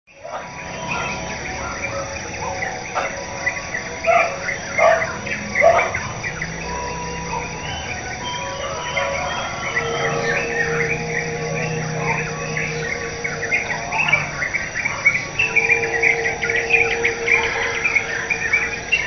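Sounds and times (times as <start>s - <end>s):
birds chirping and calling: 0.1s - 19.0s
insects trilling: 0.1s - 19.0s.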